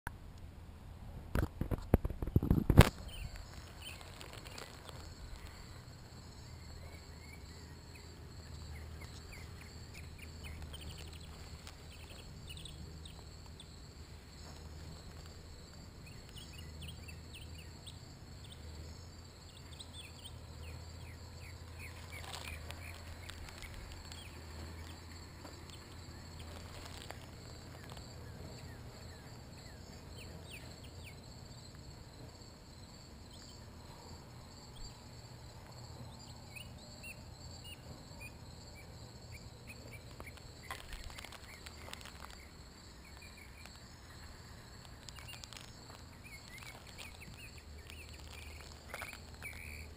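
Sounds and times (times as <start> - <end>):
low steady hum: 0.1 - 49.9
insects chirping: 0.2 - 49.9.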